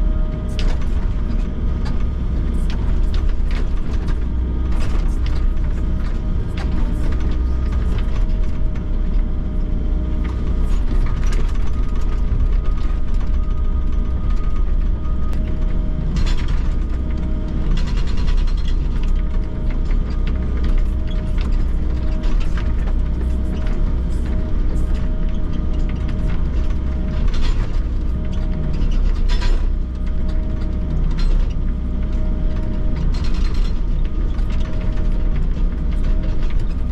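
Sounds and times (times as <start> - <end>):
excavator engine and hydraulics: 0.0 - 36.9.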